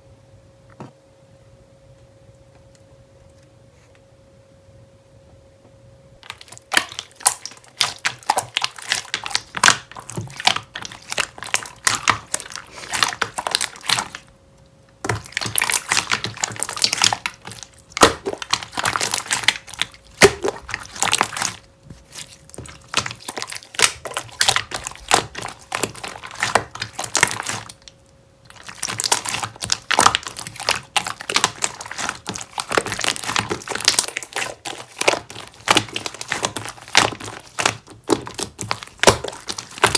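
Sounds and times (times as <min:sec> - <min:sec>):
hands squishing slime: 0:06.2 - 0:14.3, 0:15.0 - 0:39.9.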